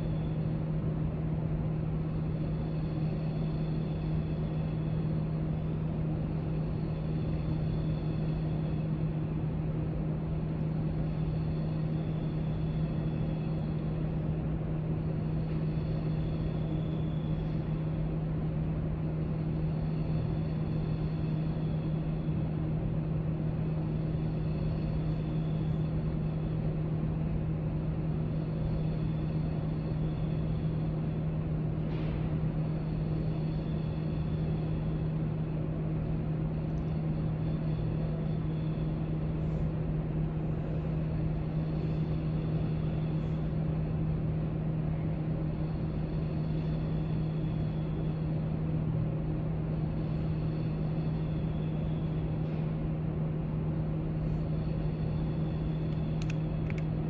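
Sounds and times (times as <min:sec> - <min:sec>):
low hum and hiss: 0:00.0 - 0:57.0.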